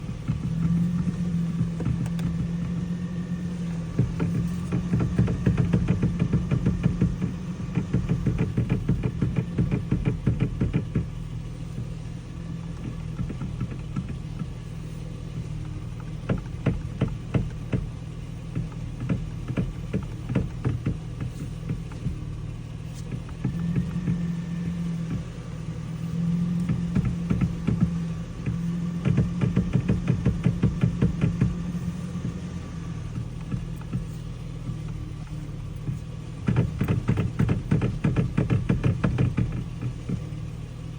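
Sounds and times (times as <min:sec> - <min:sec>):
engine idling hum: 0:00.0 - 0:40.9
steering wheel clicking: 0:00.0 - 0:40.9.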